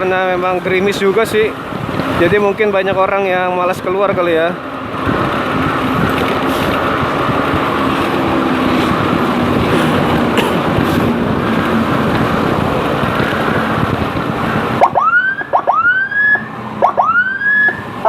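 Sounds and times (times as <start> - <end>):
wind rush over microphone: 0.0 - 16.0
motorcycle engine drone: 0.0 - 18.0.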